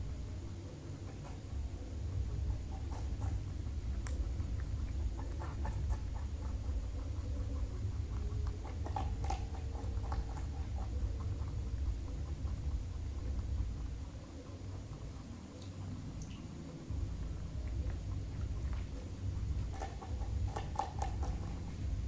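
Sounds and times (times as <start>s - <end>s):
low hum: 0.0s - 22.0s
rabbits chewing vegetables: 0.0s - 22.0s.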